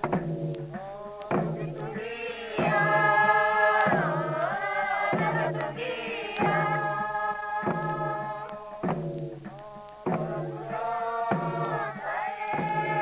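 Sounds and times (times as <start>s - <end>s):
group chanting in unison: 0.8s - 9.0s, 9.6s - 13.0s.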